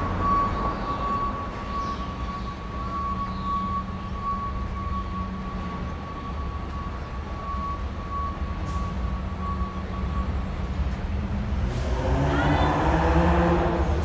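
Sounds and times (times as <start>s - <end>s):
constant high whine: 0.0s - 11.4s
low street rumble: 0.0s - 14.0s.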